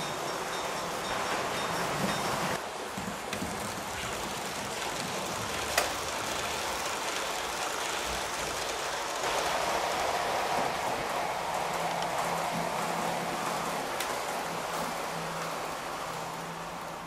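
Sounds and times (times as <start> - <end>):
model train wheels whirring: 0.0 - 17.0.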